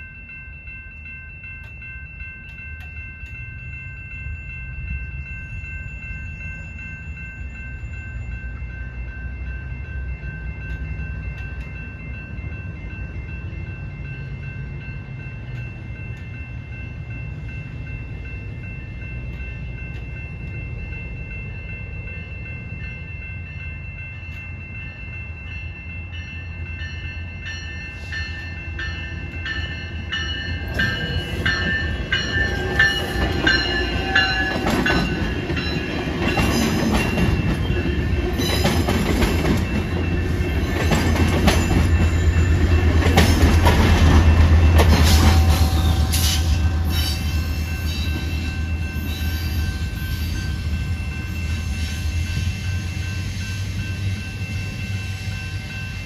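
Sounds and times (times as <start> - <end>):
crossing bells ringing: 0.0 - 56.0
train rumble and wheel clacks: 0.0 - 56.0.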